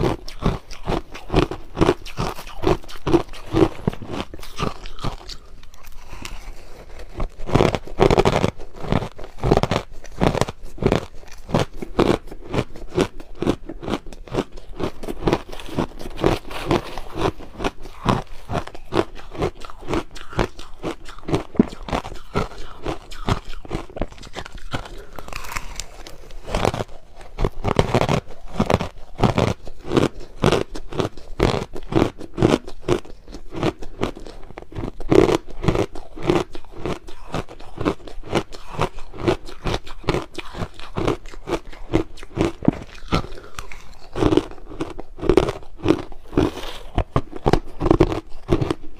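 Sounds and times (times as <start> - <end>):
crushed ice being chewed: 0.0 - 48.9.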